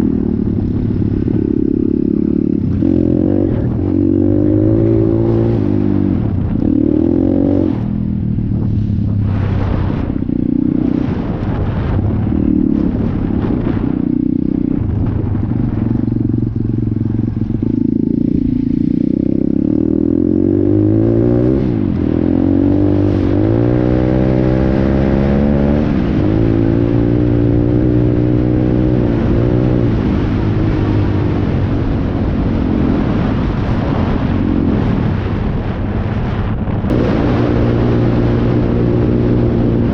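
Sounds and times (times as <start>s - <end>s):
pit bike engine revving: 0.0s - 8.1s, 8.7s - 35.4s, 36.9s - 39.9s.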